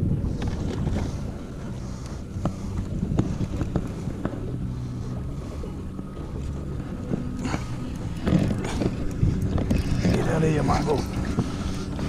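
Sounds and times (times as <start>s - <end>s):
low steady drone: 0.0s - 12.0s
wind on microphone: 0.0s - 12.0s.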